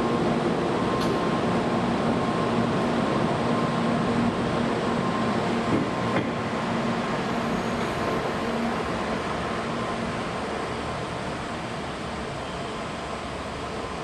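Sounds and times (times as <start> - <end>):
train rushing with low hum: 0.0 - 14.0.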